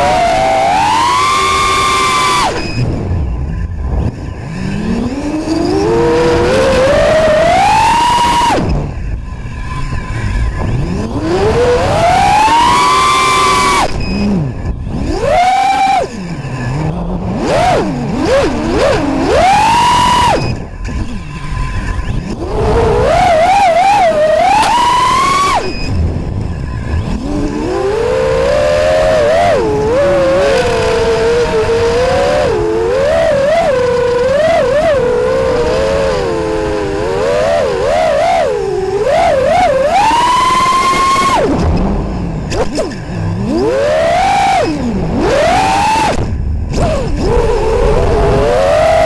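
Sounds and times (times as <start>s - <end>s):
drone motors whining: 0.0s - 49.0s.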